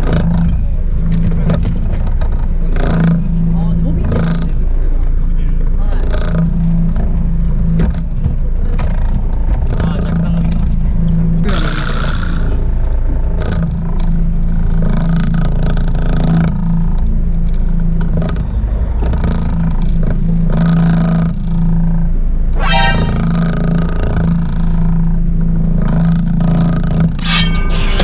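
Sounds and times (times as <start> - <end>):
boat engine droning: 0.0 - 11.6, 12.2 - 28.0.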